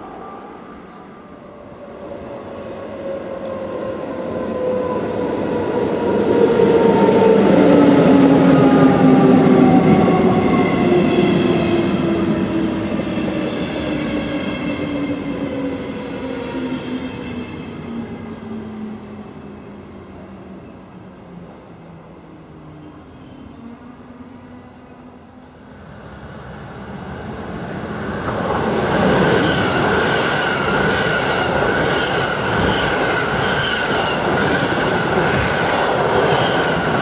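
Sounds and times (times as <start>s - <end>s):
electric train passing: 0.0s - 37.0s.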